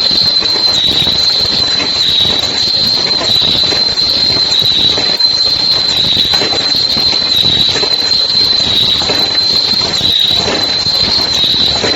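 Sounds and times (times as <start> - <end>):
high-pitched machine whine: 0.0 - 11.9
machinery noise: 0.0 - 11.9.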